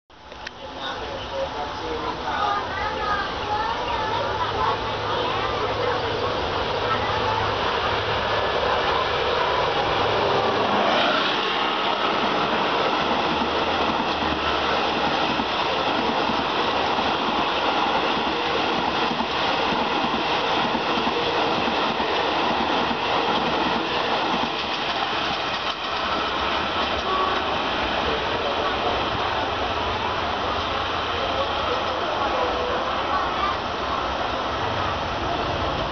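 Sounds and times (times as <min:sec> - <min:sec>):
train rumbling on rails: 0:00.1 - 0:35.9.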